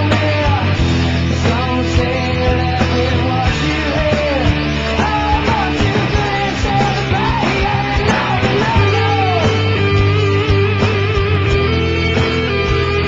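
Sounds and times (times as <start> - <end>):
electric guitar bending notes: 0.0 - 13.0
steady drums: 0.0 - 13.0
sustained bass: 0.0 - 13.0.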